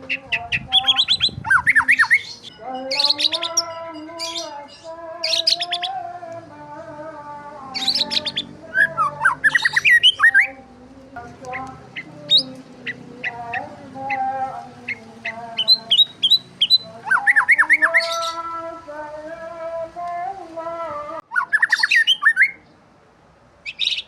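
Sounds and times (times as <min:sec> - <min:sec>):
songbirds chirping and squawking: 0:00.0 - 0:24.0.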